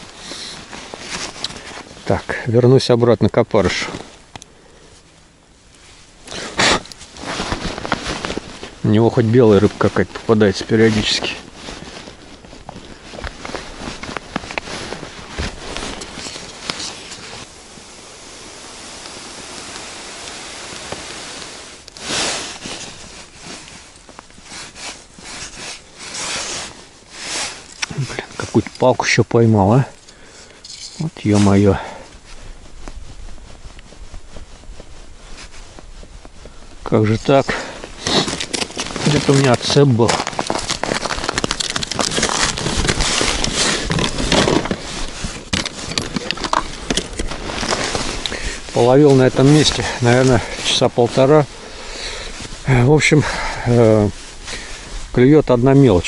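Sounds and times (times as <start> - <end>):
jacket sleeves rustling: 0.0 - 2.6, 5.0 - 56.0
snow crunching: 0.0 - 56.0
steady hiss: 0.0 - 56.0.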